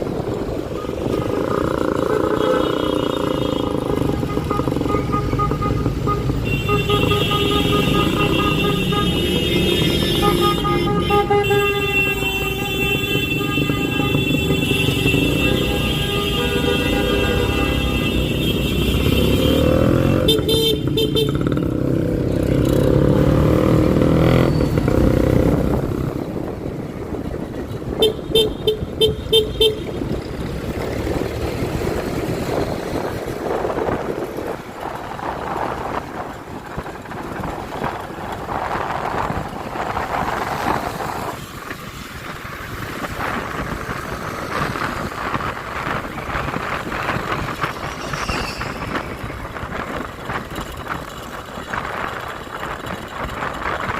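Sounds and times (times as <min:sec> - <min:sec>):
motorcycle engine: 0:00.0 - 0:53.9
road noise: 0:00.0 - 0:53.9.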